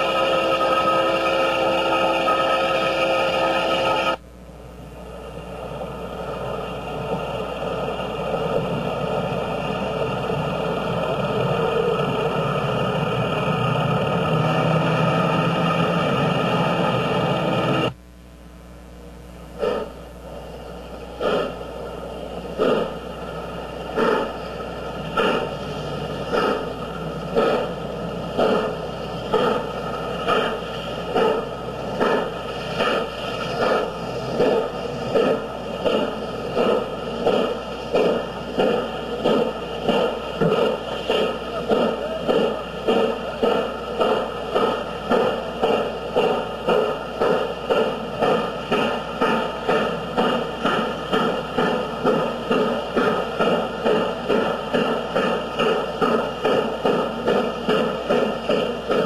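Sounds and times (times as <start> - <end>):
steam locomotive exhaust beats: 0.0 - 18.0, 19.2 - 59.0.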